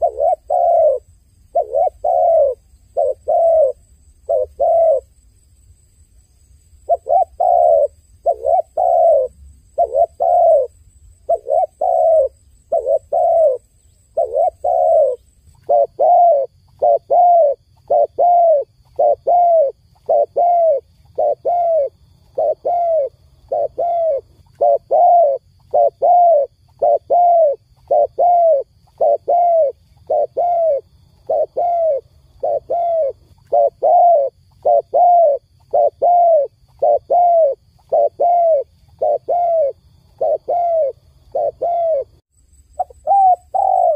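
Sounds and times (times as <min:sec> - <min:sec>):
dove cooing: 0:00.0 - 0:05.1, 0:06.8 - 0:42.2, 0:42.8 - 0:43.9.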